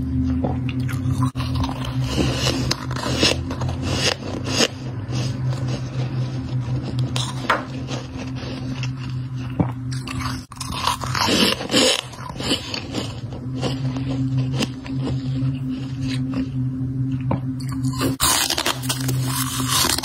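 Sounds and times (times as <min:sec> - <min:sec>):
steady low hum: 0:00.0 - 0:20.0
frost crunching and scraping: 0:00.9 - 0:16.7, 0:17.6 - 0:20.0.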